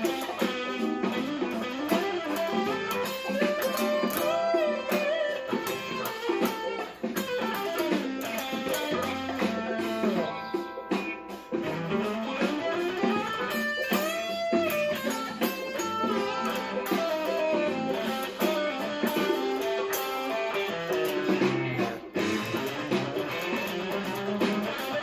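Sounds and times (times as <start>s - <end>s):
electric guitar noodling: 0.0s - 25.0s.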